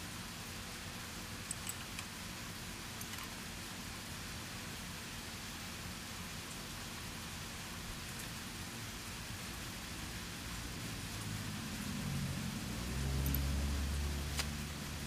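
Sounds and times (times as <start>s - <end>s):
rain falling on pavement: 0.1s - 15.0s.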